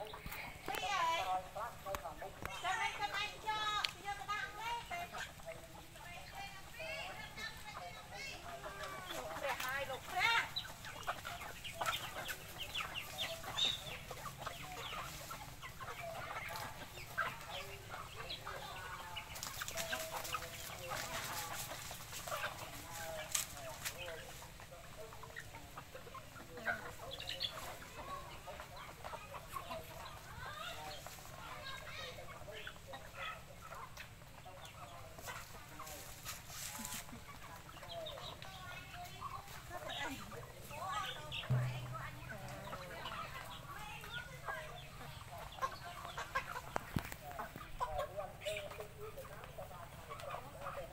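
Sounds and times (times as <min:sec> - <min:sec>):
chickens clucking and chirping: 0:00.0 - 0:50.9.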